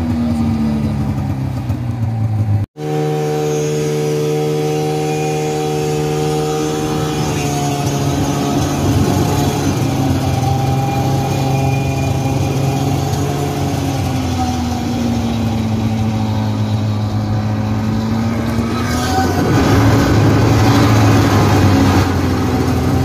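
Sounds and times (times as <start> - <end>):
snowmobile engine running: 0.0 - 23.0.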